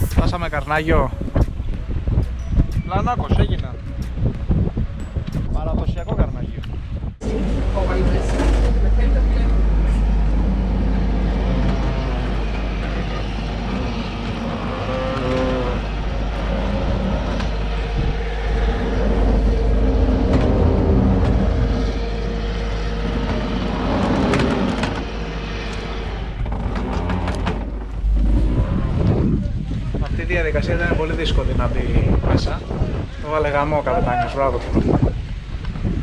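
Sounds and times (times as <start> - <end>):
low engine rumble: 0.0 - 36.0
wind on microphone: 0.0 - 36.0
steady droning tone: 7.1 - 36.0.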